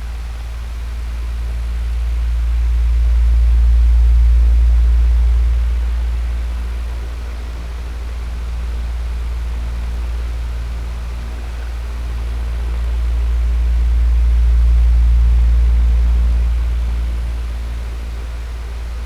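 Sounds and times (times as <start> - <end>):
electric fan motor hum: 0.0 - 19.0.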